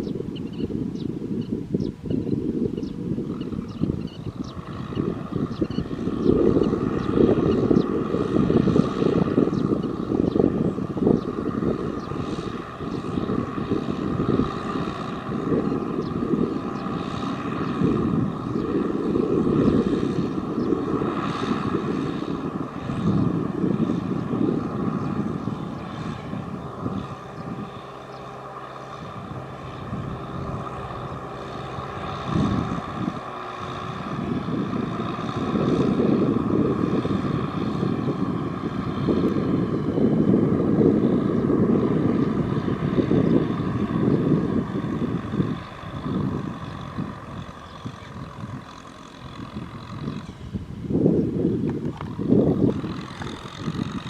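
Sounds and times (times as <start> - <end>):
tractor engine running hard: 0.0 - 54.0.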